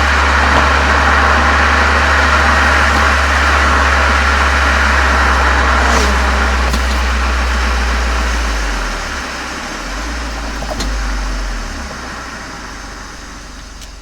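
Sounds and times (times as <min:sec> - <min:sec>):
deep car exhaust drone: 0:00.0 - 0:14.0.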